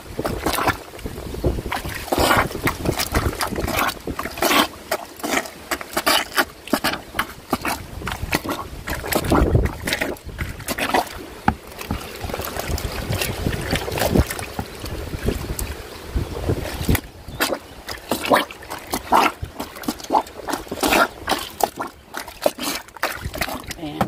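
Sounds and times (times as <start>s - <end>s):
plunger sloshing laundry in water: 0.0s - 24.0s.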